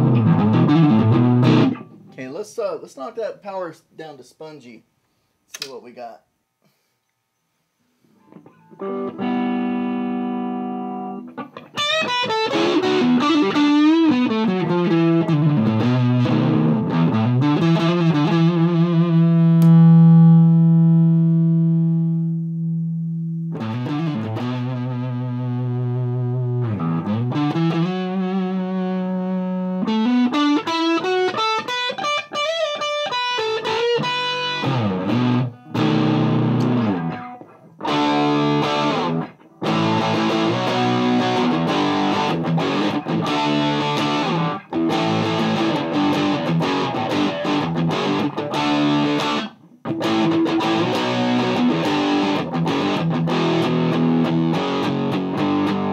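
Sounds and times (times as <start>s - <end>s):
distorted electric guitar: 0.0s - 2.2s, 8.2s - 55.9s.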